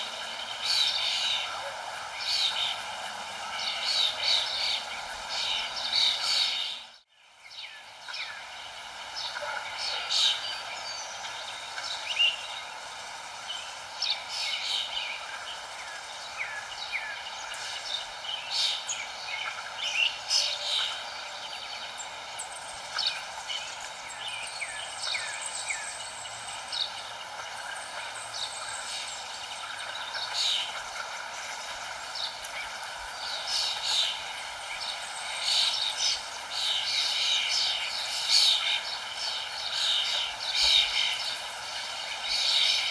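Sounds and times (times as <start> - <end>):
birds chirping: 0.0 - 42.9
steady background hiss: 0.0 - 42.9.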